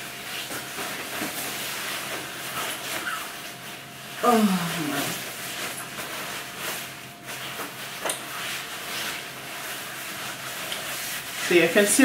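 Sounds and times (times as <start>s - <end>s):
coat fabric rustling: 0.1s - 12.0s.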